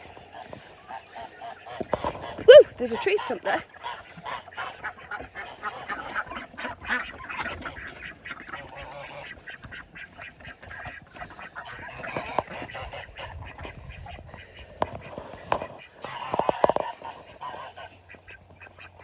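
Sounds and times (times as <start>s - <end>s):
ducks quacking: 0.0s - 19.0s
geese honking: 0.1s - 19.0s.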